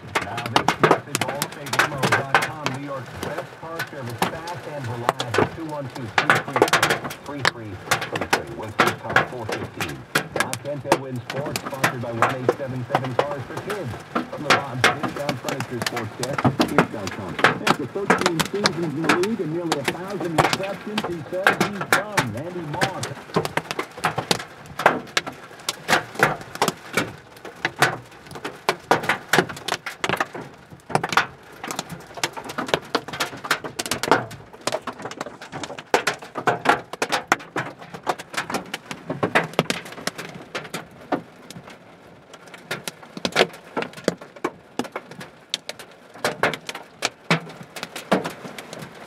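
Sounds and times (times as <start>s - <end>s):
hailstones pelting car roof: 0.0s - 49.0s.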